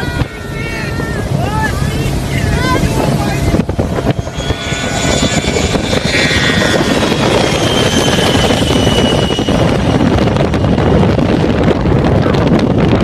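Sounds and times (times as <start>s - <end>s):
aircraft engines whining: 0.0s - 13.0s
wind buffeting microphone: 0.0s - 13.0s.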